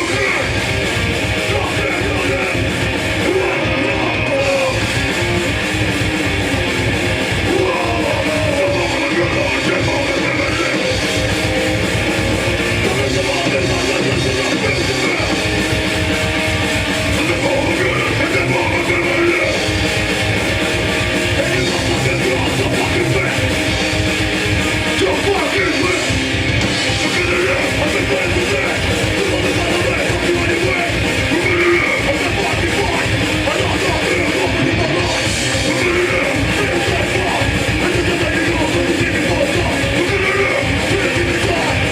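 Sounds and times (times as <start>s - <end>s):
distorted electric guitar strumming: 0.0s - 41.9s
hardcore punk band playing live: 0.0s - 41.9s.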